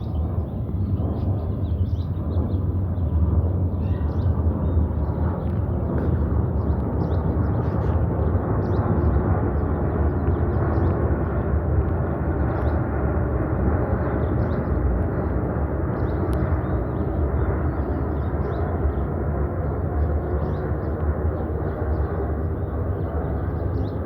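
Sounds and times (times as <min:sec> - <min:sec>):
jet plane passing overhead: 0:00.0 - 0:24.0.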